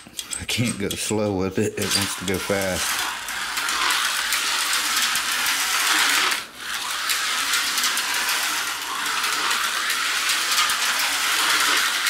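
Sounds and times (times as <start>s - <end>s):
slot car motor buzzing: 0.0s - 12.0s.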